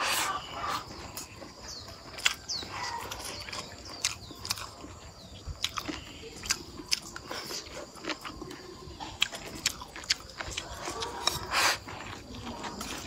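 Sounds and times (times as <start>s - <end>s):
chewing noodles: 0.0s - 13.0s.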